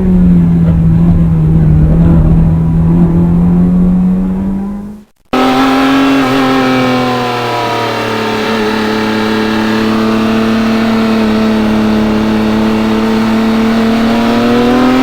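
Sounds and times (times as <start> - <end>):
car engine revving high: 0.0 - 15.0
engine with falling pitch: 0.0 - 15.0.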